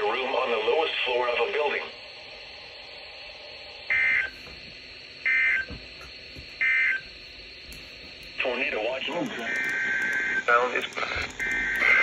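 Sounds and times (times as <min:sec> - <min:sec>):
shrill electronic data bursts: 0:00.0 - 0:04.4, 0:05.0 - 0:05.7, 0:06.6 - 0:07.6, 0:08.3 - 0:12.0.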